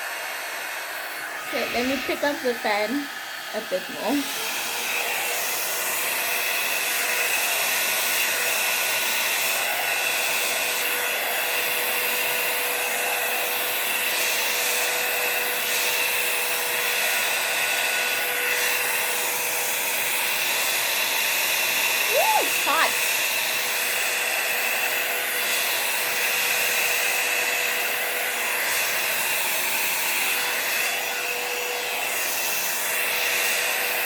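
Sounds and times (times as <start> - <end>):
hair dryer whooshing and whining: 0.0 - 34.0.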